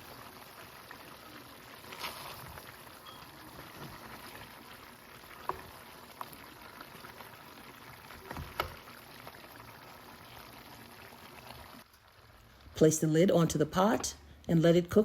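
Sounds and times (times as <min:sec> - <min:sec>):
stew simmering in a pot: 0:00.0 - 0:15.0.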